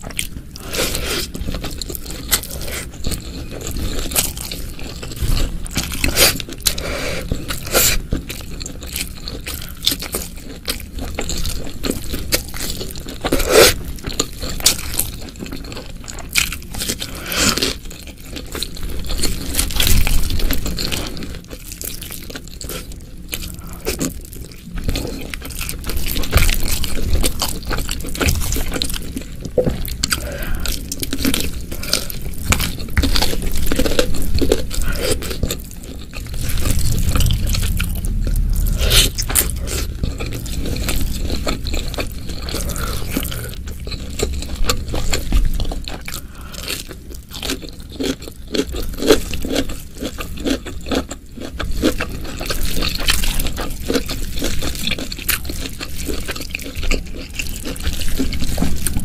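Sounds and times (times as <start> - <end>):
crunchy wet chewing: 0.0 - 59.0.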